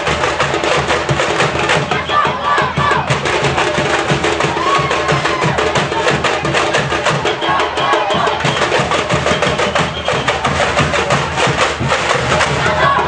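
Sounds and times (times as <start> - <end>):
fast clicking percussion: 0.0 - 13.0.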